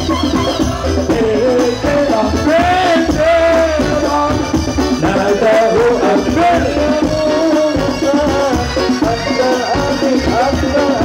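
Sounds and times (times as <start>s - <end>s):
percussion beat: 0.0s - 11.0s
person singing devotional song: 0.5s - 11.0s.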